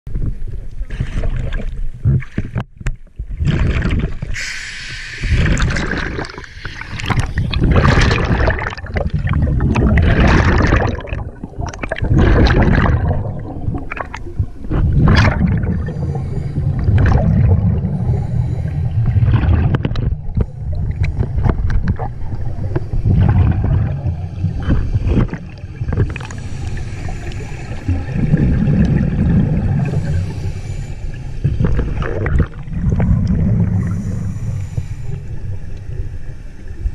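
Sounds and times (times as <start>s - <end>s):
water splashing and bubbling: 0.3s - 36.9s
regulator bubbles gurgling: 0.4s - 4.5s, 5.2s - 36.9s
low underwater rumble: 5.3s - 36.9s.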